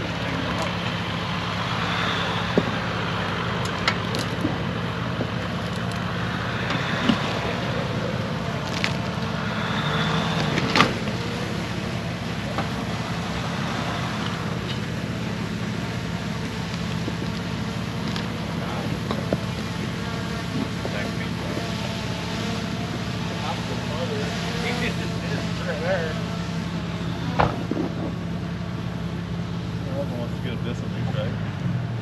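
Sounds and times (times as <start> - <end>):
engine running at low revs: 0.0 - 32.0.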